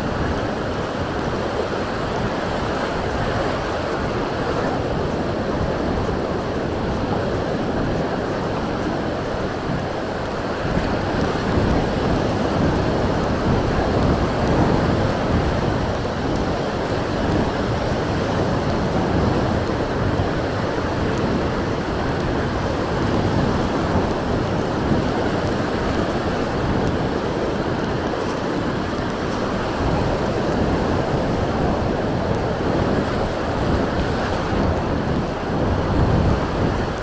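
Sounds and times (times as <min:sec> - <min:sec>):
waves breaking on beach: 0:00.0 - 0:37.0
wind blowing over microphone: 0:00.0 - 0:37.0.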